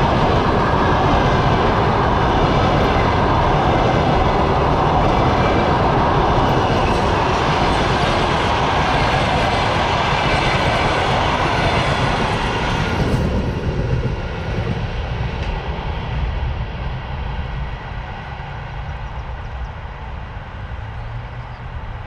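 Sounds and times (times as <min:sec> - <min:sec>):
train coaches passing on rails: 0:00.0 - 0:22.0.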